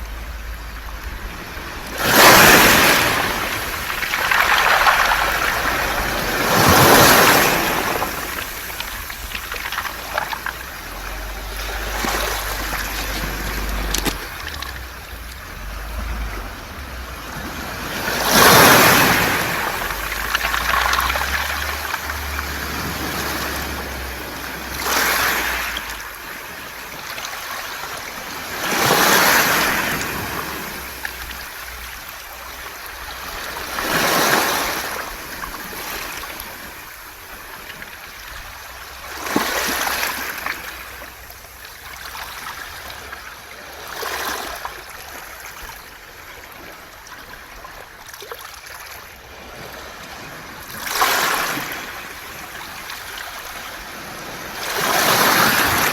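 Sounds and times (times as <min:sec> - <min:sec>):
waves washing over pebbles: 0:00.0 - 0:55.9.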